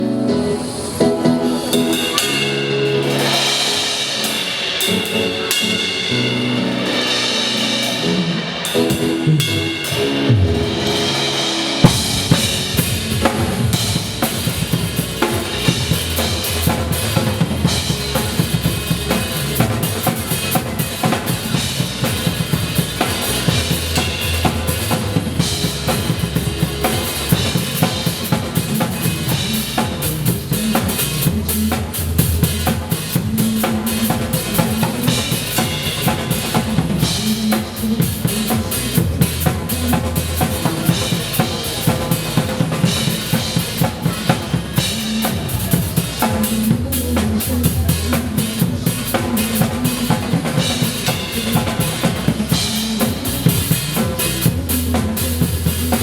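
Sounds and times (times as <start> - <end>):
pop song with drums: 0.0 - 56.0.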